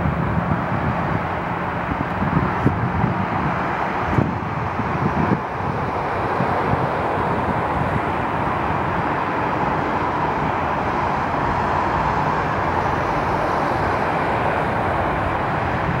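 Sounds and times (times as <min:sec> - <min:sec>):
jet engines at take-off thrust: 0:00.0 - 0:16.0.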